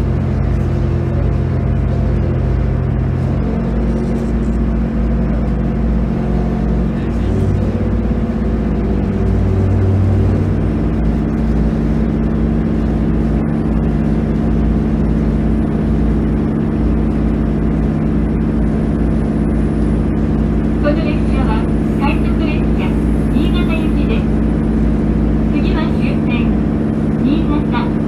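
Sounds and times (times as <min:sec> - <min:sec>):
diesel railcar engine drone: 0:00.0 - 0:28.0.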